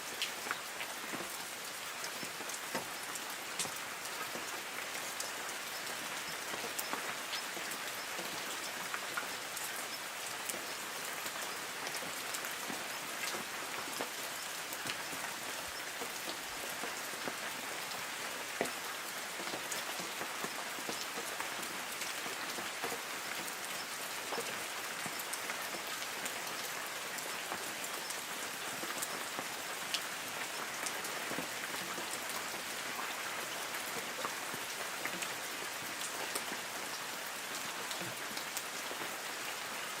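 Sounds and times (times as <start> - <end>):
light rain on trees: 0.0 - 40.0
raindrops ticking on leaves: 0.0 - 40.0.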